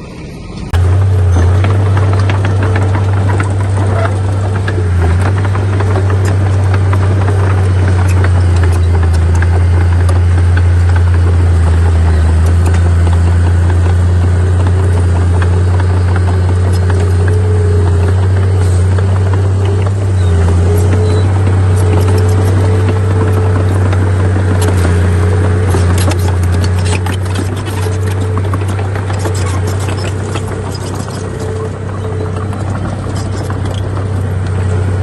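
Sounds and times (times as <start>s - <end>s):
heavy diesel engine droning: 0.0s - 35.0s.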